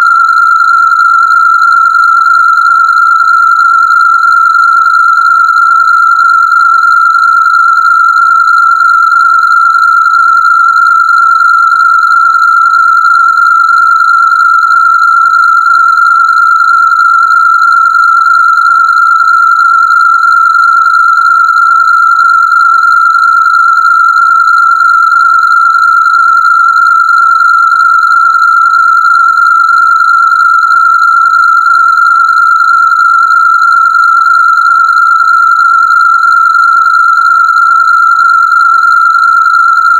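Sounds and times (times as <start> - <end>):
high-pitched electronic test tone: 0.0 - 39.9.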